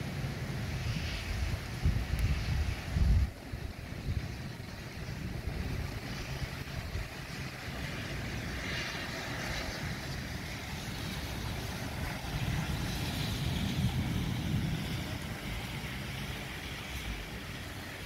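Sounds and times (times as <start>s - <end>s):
rain falling on street: 0.0s - 18.0s
wind rumble on microphone: 0.0s - 18.0s.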